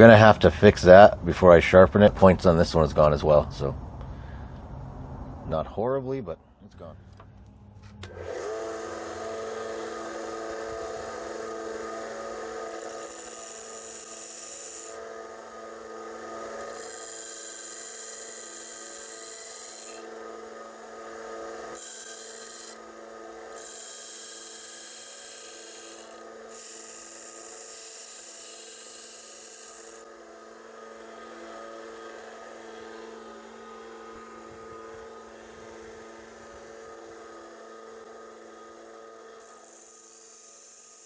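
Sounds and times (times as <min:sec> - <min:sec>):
grinder motor running: 0:08.0 - 0:41.0.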